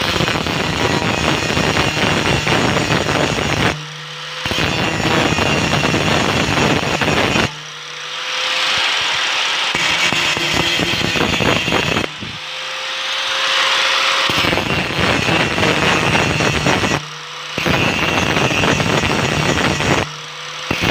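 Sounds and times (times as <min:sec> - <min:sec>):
angle grinder grinding metal: 0:00.0 - 0:20.9
grinder spinning free whine: 0:00.0 - 0:20.9.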